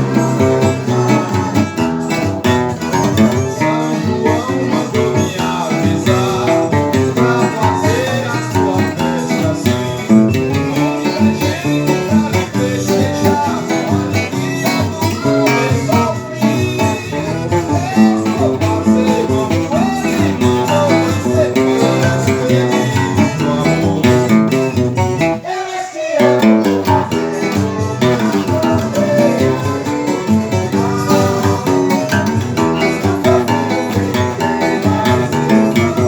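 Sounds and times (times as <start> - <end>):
acoustic guitar playing lively tune: 0.0 - 36.0.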